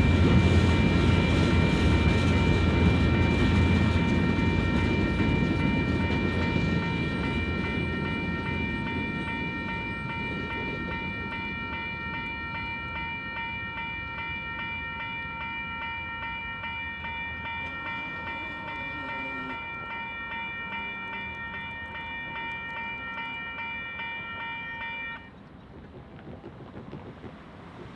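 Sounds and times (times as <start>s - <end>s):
railroad crossing bell ringing: 0.0s - 25.7s
freight train rumble: 0.0s - 27.9s.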